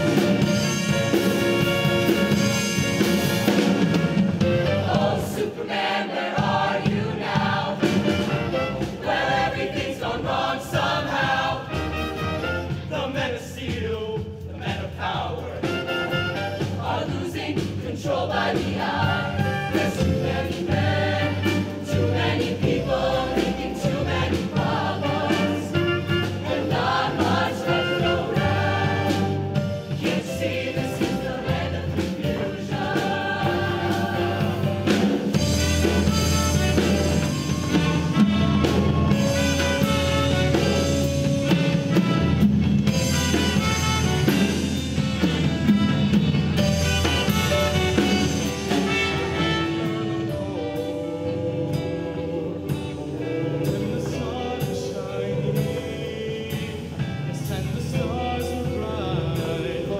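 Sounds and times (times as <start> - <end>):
instrumental accompaniment: 0.0 - 13.0, 14.2 - 59.8
mixed choir singing: 4.4 - 41.6, 47.3 - 59.9.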